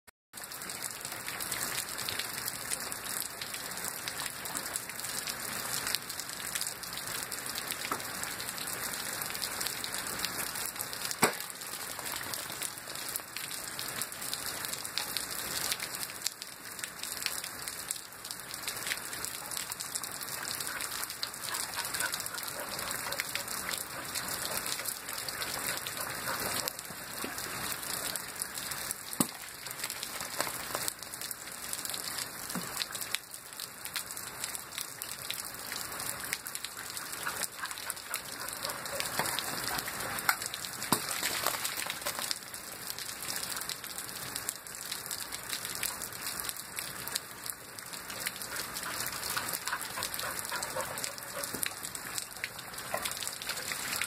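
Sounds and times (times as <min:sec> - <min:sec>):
heavy rain on puddles: 0:00.4 - 0:54.0.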